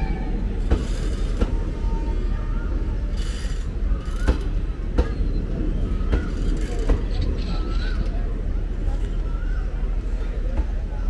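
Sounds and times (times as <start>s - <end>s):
train coaches rumbling: 0.0s - 11.0s.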